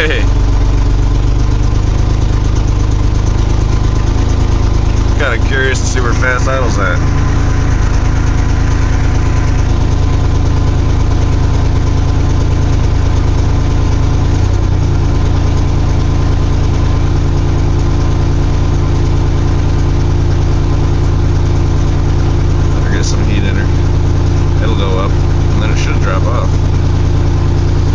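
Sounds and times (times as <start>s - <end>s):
car engine fast idling: 0.0s - 27.9s.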